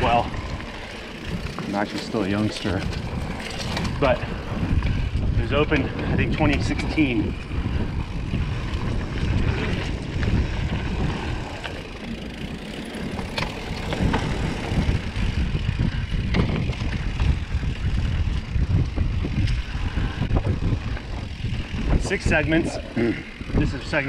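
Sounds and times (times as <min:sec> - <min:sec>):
bike knocking and rattling: 0:00.0 - 0:24.0
bike tyre and drivetrain noise: 0:00.0 - 0:24.0
wind rumbling on microphone: 0:00.0 - 0:24.0.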